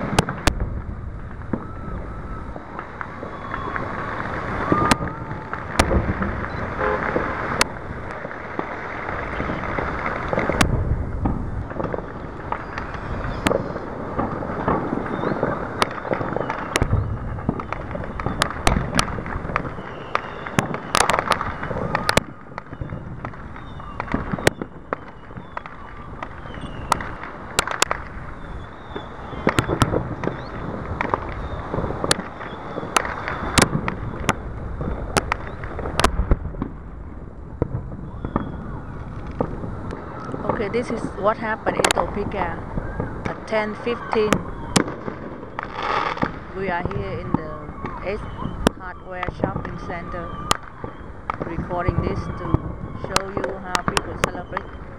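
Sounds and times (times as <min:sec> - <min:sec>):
fireworks bangs and crackles: 0:00.0 - 0:54.9
steady background noise: 0:00.0 - 0:54.9.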